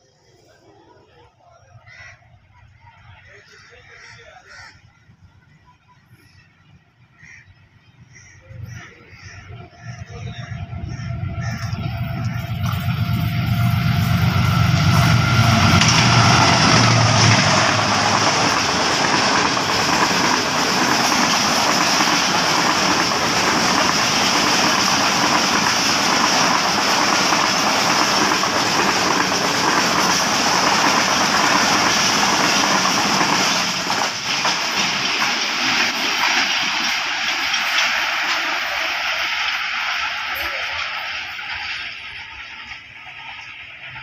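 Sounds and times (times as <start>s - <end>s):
train coaches rushing over rails: 4.8s - 44.0s
locomotive engine: 7.7s - 44.0s.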